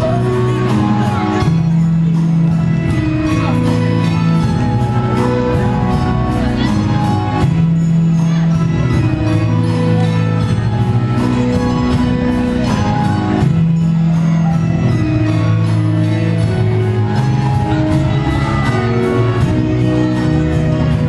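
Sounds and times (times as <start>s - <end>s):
jingling percussion: 0.0s - 21.0s
loud music with steady beat: 0.0s - 21.0s.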